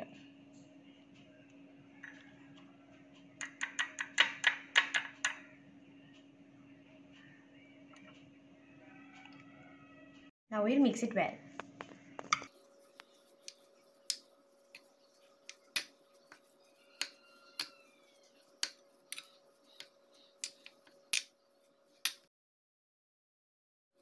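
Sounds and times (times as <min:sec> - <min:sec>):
faint steady hum: 0:00.0 - 0:03.8, 0:05.1 - 0:22.0.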